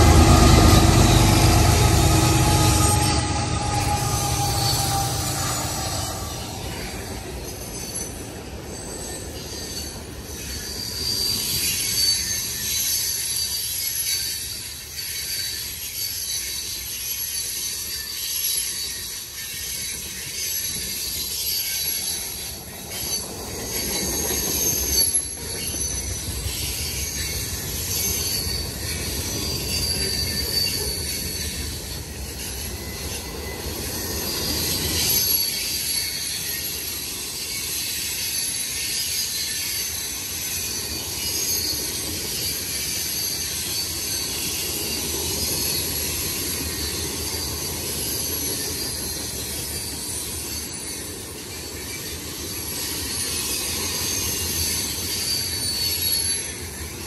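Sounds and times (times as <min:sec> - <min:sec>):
freight train rumble: 0:00.0 - 0:57.0
train wheels squealing: 0:00.0 - 0:57.0.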